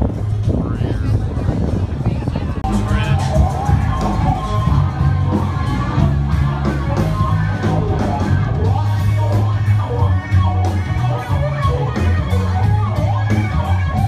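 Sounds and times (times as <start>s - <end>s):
bass line: 0.0s - 14.0s
live rock band playing: 0.0s - 14.0s.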